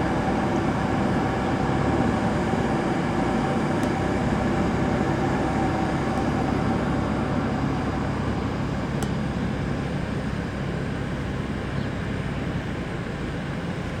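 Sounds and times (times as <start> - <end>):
jet engines rumbling: 0.0 - 13.9.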